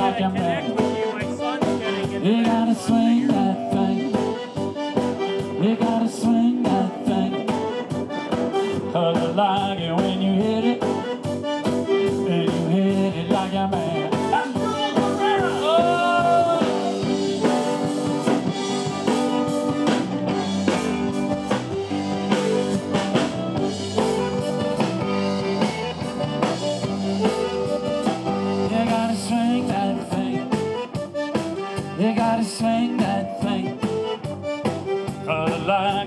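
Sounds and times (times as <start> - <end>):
drums keeping a steady beat: 0.0 - 36.0
instrumental song music: 0.0 - 36.0.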